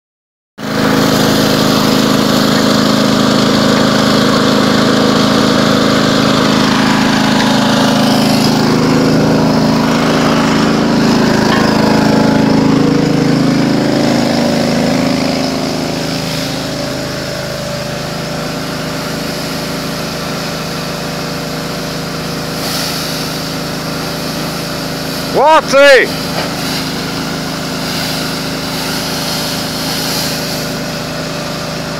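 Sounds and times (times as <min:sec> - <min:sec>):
fire truck engine running: 0:00.6 - 0:31.9.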